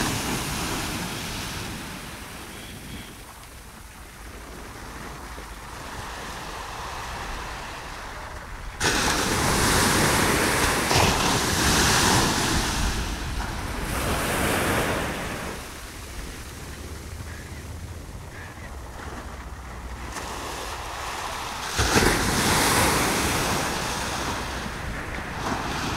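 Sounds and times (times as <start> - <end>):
ocean surf breaking on beach: 0.0 - 25.9.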